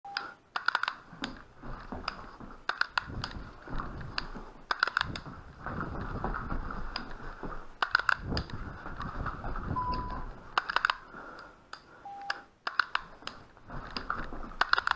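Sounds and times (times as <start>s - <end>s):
sharp clicks and knocks: 0.2s - 14.9s
rustling handling noise: 0.6s - 11.6s, 12.7s - 14.9s.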